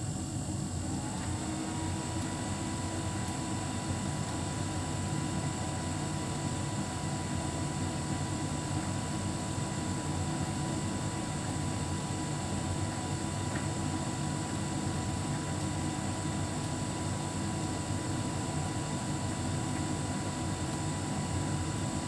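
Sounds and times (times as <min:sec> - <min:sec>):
tumble dryer humming: 0:00.0 - 0:22.0.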